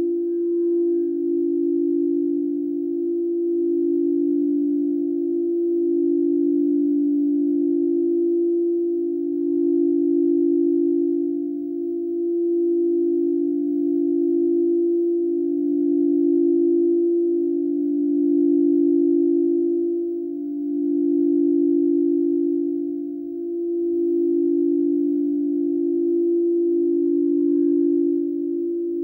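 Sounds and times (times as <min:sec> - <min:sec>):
crystal singing bowls ringing: 0:00.0 - 0:29.0.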